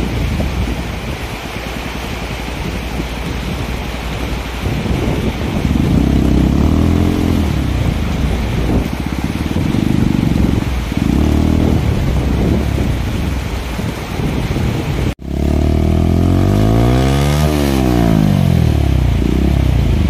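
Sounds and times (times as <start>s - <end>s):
motorcycle engine revving: 2.8s - 20.0s.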